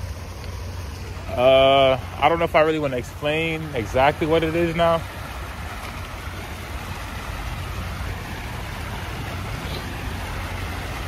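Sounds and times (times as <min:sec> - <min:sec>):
even hiss: 0:00.0 - 0:11.0
low outdoor rumble: 0:00.0 - 0:11.0.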